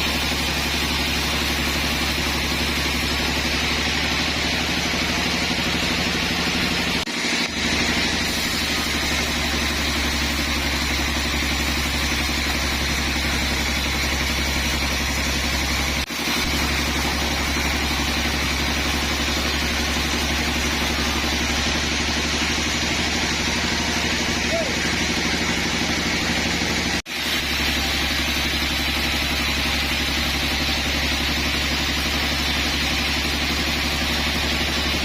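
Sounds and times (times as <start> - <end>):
sawmill machinery drone: 0.0 - 35.0.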